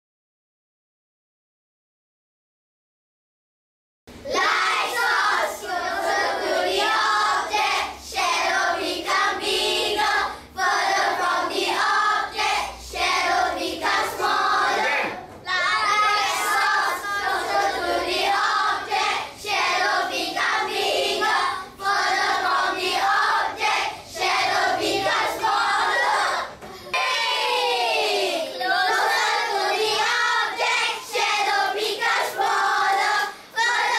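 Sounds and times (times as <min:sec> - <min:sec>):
children singing in unison: 0:04.3 - 0:33.9.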